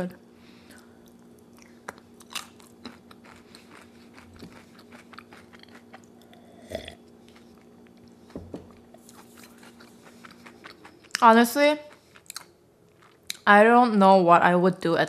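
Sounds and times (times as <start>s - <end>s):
chewing crunchy food: 0.7s - 13.5s.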